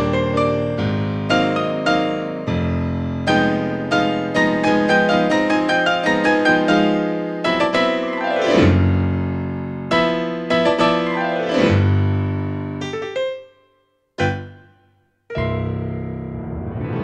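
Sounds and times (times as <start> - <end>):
digital piano tango piece: 0.0 - 17.0.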